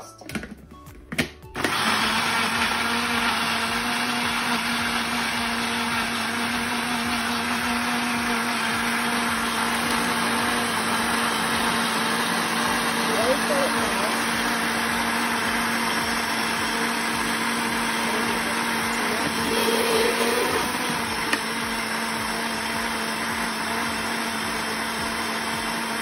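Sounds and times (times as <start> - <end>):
blender running: 1.5 - 26.0.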